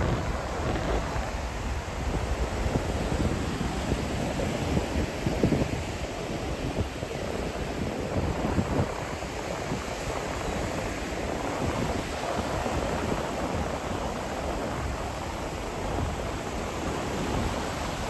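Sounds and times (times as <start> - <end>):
surf washing: 0.0 - 18.0
wind buffeting microphone: 0.0 - 18.0.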